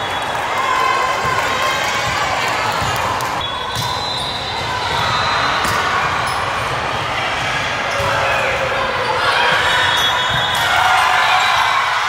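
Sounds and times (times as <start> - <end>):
spectators and players in gym: 0.0 - 12.0.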